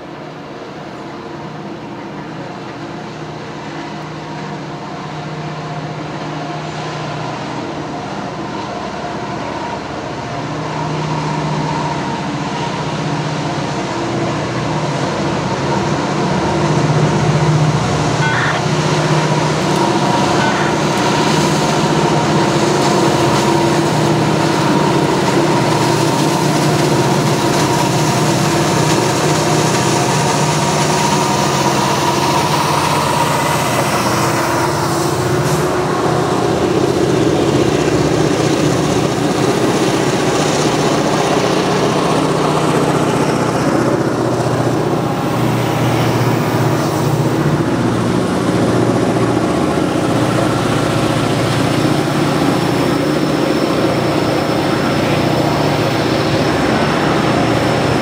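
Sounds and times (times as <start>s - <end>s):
diesel locomotives droning: 0.0s - 58.0s
freight cars rolling: 0.0s - 58.0s.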